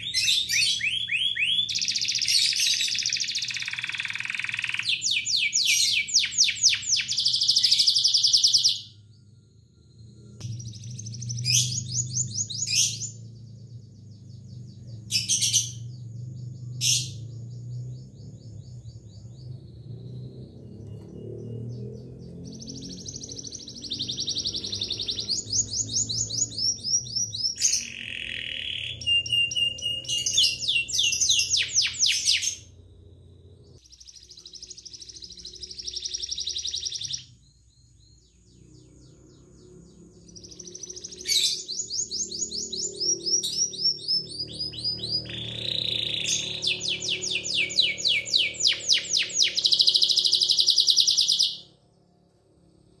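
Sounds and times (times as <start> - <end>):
canary singing trills: 0.0 - 32.9, 33.6 - 51.8.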